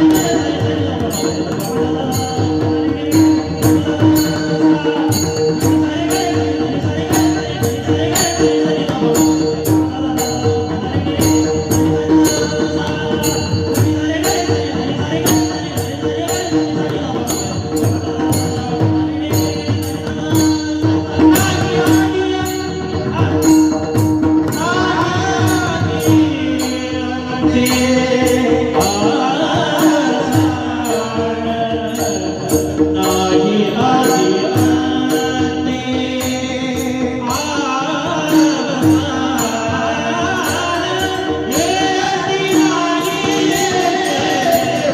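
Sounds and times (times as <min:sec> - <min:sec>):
hand drum beat: 0:00.0 - 0:44.9
men singing devotional song: 0:00.0 - 0:44.9.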